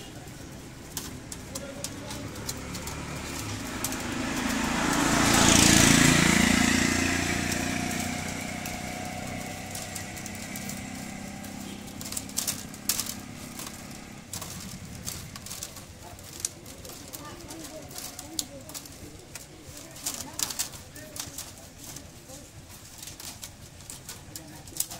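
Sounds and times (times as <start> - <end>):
bamboo strips clicking: 0.0 - 24.9
motor vehicle passing by: 0.0 - 24.9.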